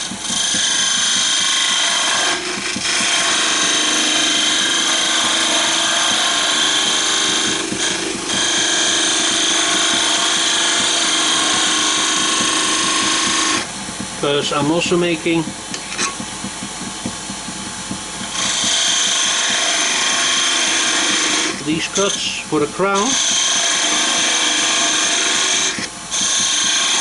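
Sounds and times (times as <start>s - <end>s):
wood lathe cutting with whine: 0.0s - 13.7s, 18.2s - 27.0s.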